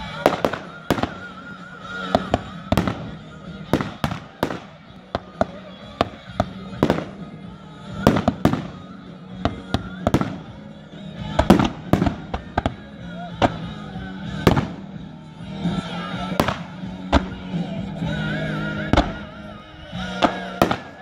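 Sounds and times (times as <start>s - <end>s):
fireworks banging: 0.0s - 21.0s.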